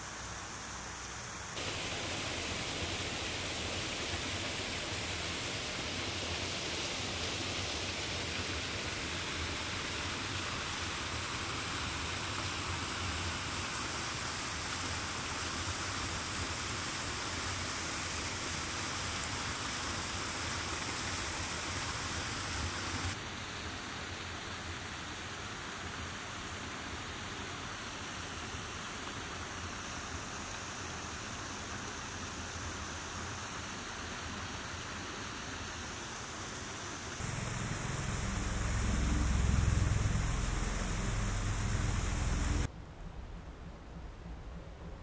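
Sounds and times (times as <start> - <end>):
outdoor rushing hiss: 0.0 - 42.7.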